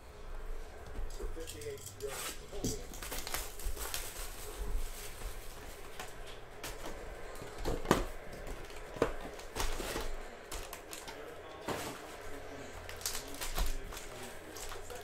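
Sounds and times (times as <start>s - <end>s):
cardboard box and plastic crinkling: 1.5s - 15.0s.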